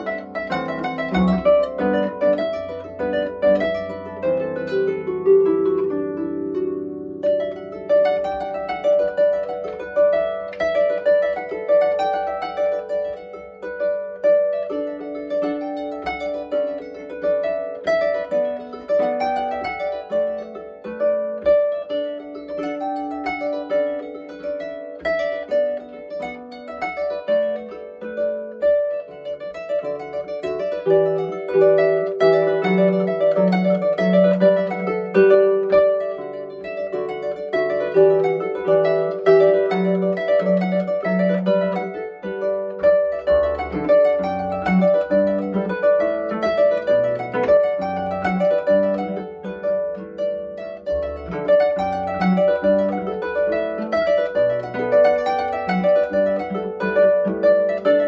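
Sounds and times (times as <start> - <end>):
harp plucked tune: 0.0 - 58.0.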